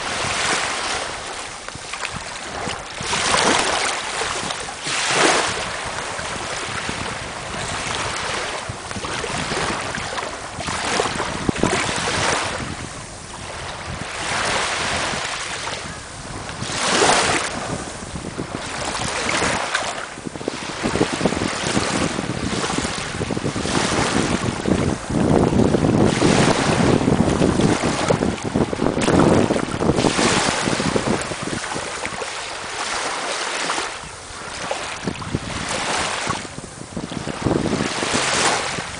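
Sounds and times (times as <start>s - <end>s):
waves washing over sand: 0.0s - 38.9s
wind buffeting microphone: 0.0s - 38.9s.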